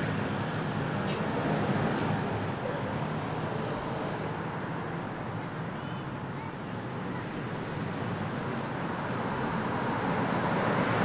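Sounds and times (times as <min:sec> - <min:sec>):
heavy vehicle engine humming: 0:00.0 - 0:11.0
street noise: 0:00.0 - 0:11.0.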